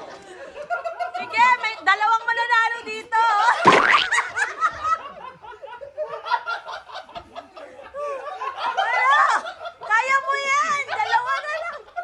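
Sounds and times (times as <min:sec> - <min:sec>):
people laughing: 0:00.0 - 0:02.6, 0:03.3 - 0:12.0.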